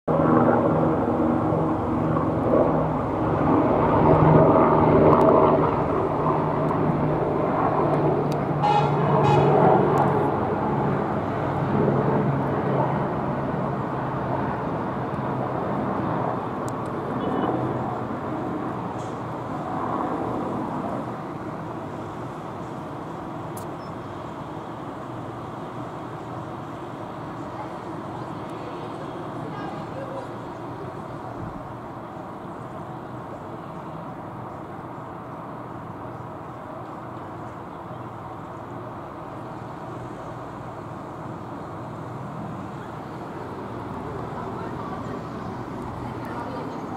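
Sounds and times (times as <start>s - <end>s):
helicopter flying past: 0.1s - 46.9s.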